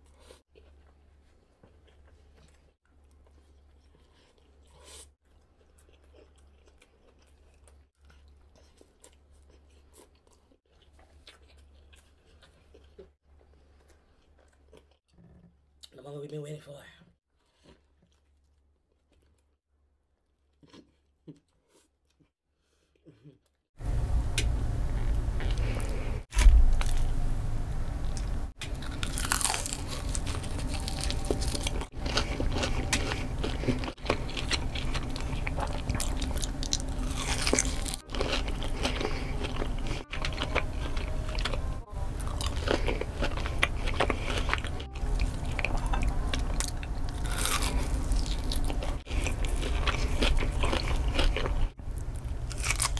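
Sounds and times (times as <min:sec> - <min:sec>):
crunching and chewing: 0:00.0 - 0:15.2, 0:17.3 - 0:19.6, 0:20.2 - 0:23.7, 0:25.0 - 0:27.1, 0:28.1 - 0:52.9.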